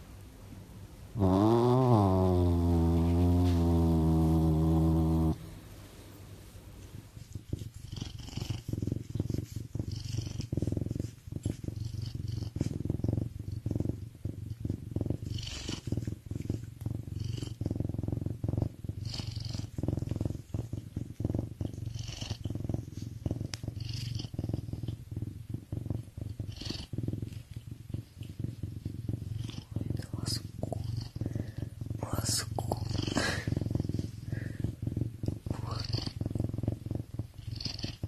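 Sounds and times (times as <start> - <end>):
soft hiss: 0.0 - 38.0
cat purring: 0.8 - 5.8, 6.5 - 38.0.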